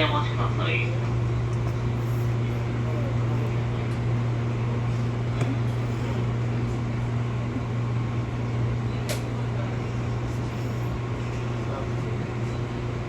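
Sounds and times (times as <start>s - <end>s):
low electrical hum in train: 0.0s - 13.0s.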